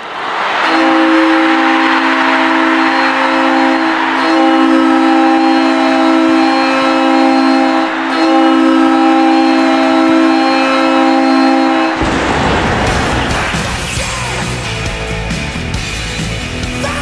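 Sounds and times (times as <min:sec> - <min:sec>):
loud crowd noise: 0:00.0 - 0:17.0
goal horn blaring: 0:00.3 - 0:14.4.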